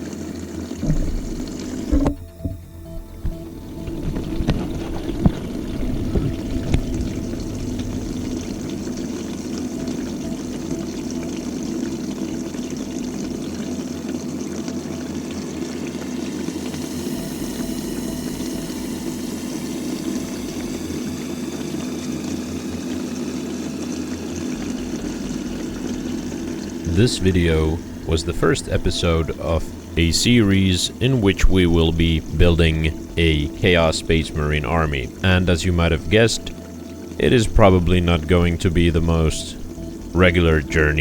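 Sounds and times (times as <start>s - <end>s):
liquid pouring and splashing: 0.0s - 41.0s
small electric pump humming: 0.0s - 41.0s.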